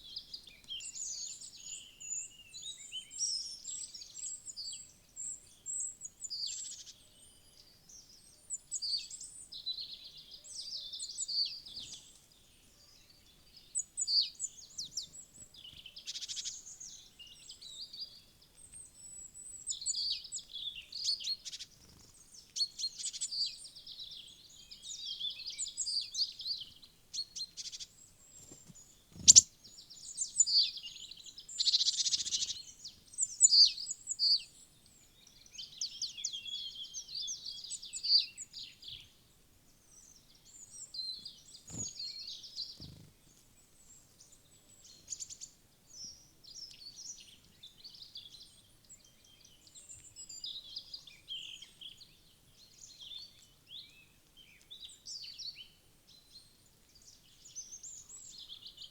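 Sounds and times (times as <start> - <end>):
small birds chirping and singing: 0.0 - 58.9.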